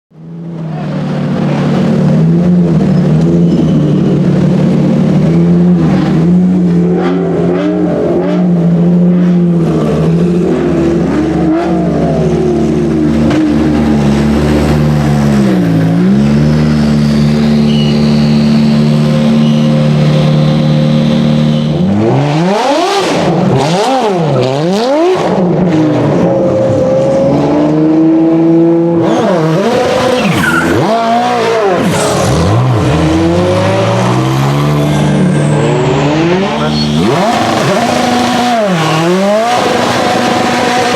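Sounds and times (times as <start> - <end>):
car engine idling and revving: 0.1 - 40.9.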